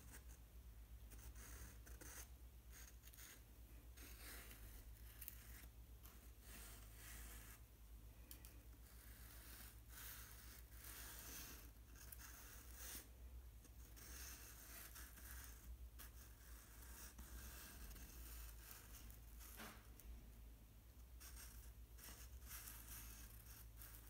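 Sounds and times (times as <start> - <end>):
pen scratching on paper: 0.0 - 0.4, 1.1 - 7.6, 8.5 - 19.9, 21.2 - 24.0.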